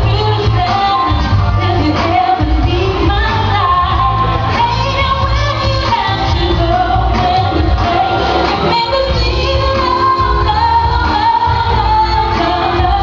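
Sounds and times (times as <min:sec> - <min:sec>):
amplified backing music: 0:00.0 - 0:13.0
woman singing into a microphone: 0:00.0 - 0:13.0.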